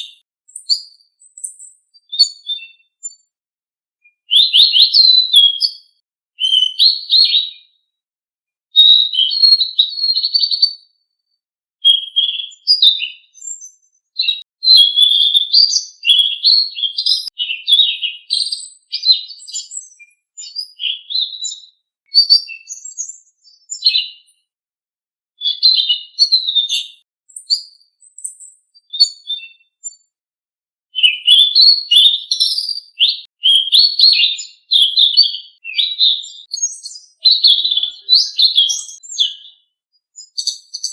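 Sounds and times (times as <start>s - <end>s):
songbird chirping and whistling: 0.0s - 3.3s, 4.0s - 7.8s, 8.8s - 11.0s, 11.8s - 24.3s, 25.4s - 30.1s, 31.0s - 39.6s, 40.2s - 40.9s.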